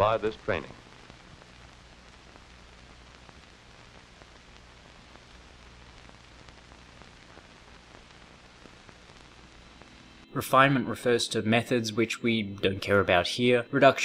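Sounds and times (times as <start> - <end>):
faint crackles: 0.0 - 14.0
film soundtrack hiss: 0.0 - 14.0.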